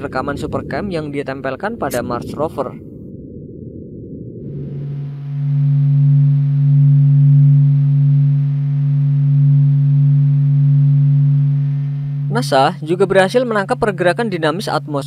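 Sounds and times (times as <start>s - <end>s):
low windy rumble: 0.0s - 15.0s
steady low hum with overtones: 0.0s - 15.0s.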